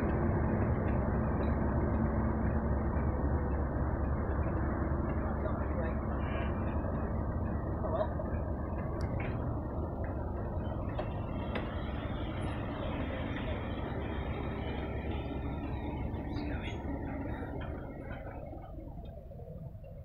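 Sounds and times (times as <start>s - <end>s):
train wheels on rails: 0.0s - 19.3s
diesel locomotive drawing away: 0.0s - 20.0s.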